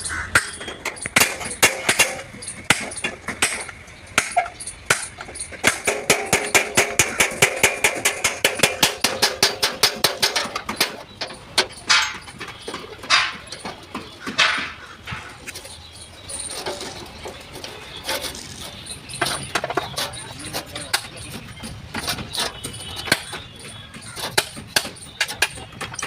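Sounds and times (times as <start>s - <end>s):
metal panel ringing: 0.0s - 26.0s.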